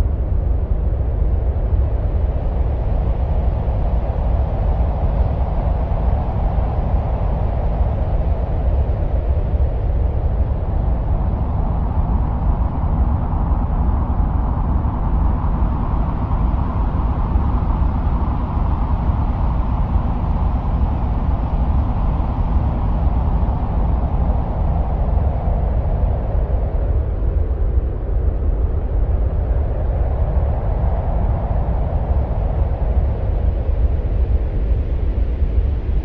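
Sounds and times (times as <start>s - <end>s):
low wind-like rumble: 0.0s - 36.0s.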